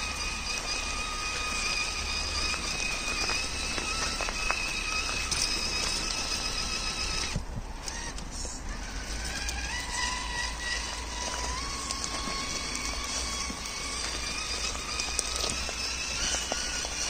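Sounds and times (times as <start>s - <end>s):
toy car motor whining: 0.0s - 17.0s.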